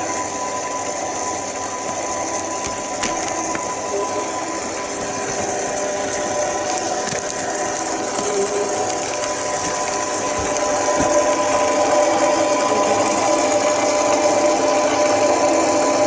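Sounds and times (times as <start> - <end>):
lathe motor and gear whine: 0.0 - 16.0.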